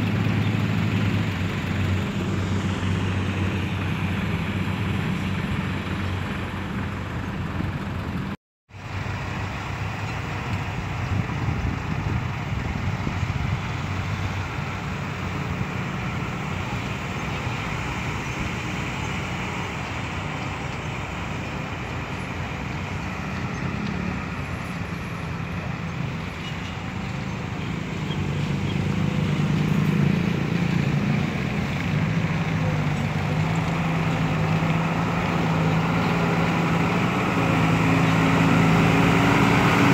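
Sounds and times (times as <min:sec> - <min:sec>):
dump truck diesel engines: 0:00.0 - 0:39.9.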